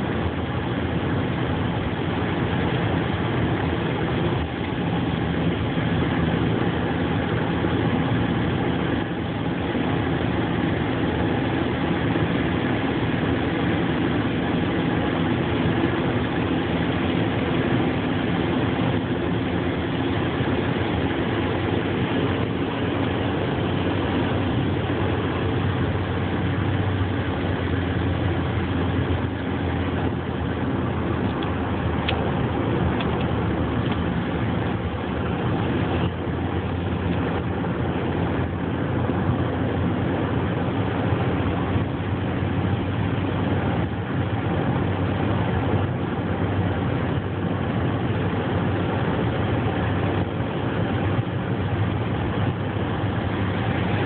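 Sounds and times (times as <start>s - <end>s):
car cabin road and engine noise: 0.0s - 54.0s.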